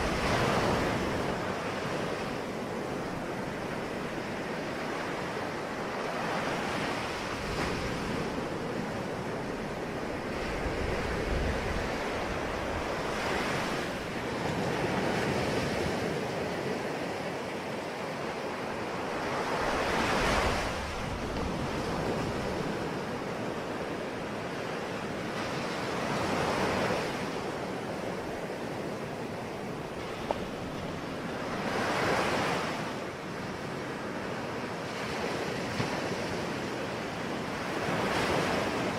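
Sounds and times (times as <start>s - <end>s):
ocean waves breaking on shore: 0.0s - 38.9s
wind: 0.0s - 38.9s.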